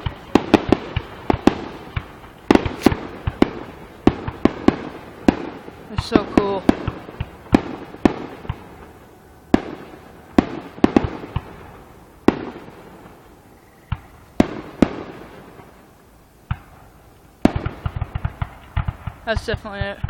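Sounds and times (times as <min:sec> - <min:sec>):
firework shells bursting: 0:00.0 - 0:19.7
firework crackle: 0:00.0 - 0:20.0.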